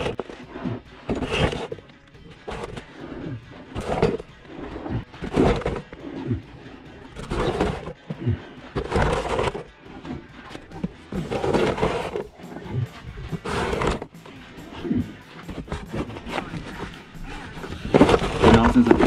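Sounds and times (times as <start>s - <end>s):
body scraping over dirt: 0.0s - 19.0s.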